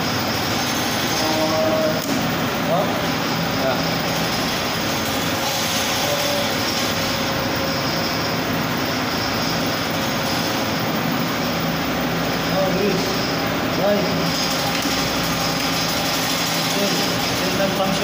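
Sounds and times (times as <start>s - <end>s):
air compressor running: 0.0s - 18.0s.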